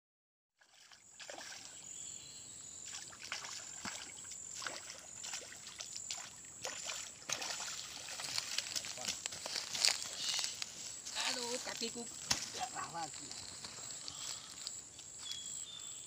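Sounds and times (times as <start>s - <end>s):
water splashing and sloshing: 0.6s - 1.9s, 2.8s - 14.7s.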